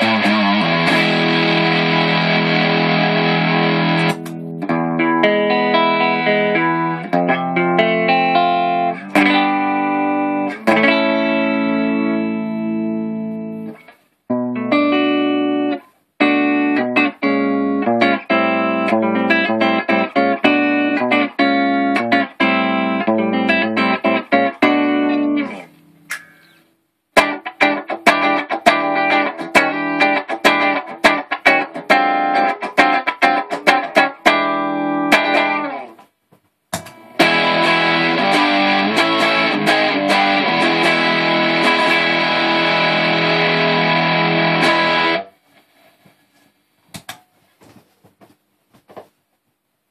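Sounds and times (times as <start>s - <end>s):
electric guitar chords: 0.0s - 26.6s, 27.2s - 36.0s, 36.8s - 45.4s.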